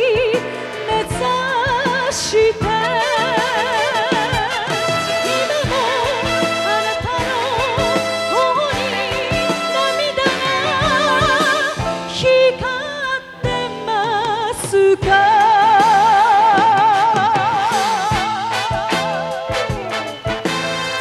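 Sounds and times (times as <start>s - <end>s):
woman singing a pop ballad: 0.0s - 19.8s
instrumental accompaniment: 0.0s - 21.0s.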